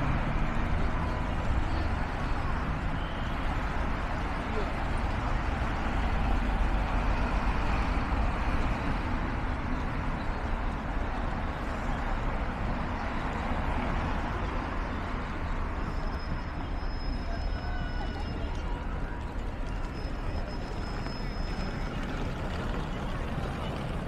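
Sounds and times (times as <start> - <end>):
bus passing: 0.0 - 24.0
cars passing: 0.0 - 24.0.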